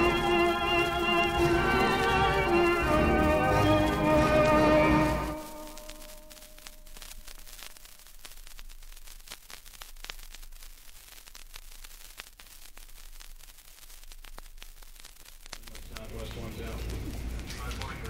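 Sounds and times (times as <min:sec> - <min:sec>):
vinyl record crackle and hiss: 0:00.0 - 0:18.0.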